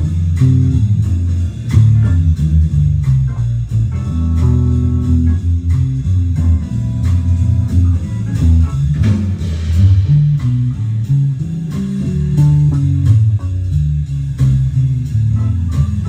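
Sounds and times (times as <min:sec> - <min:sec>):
guitar music: 0:00.0 - 0:16.0
plucked bass line: 0:00.0 - 0:16.0.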